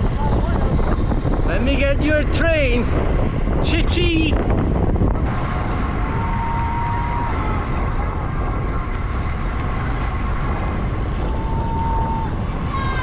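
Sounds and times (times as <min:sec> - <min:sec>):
bicycle tyre noise on road: 0:00.0 - 0:13.0
wind on microphone: 0:00.0 - 0:13.0.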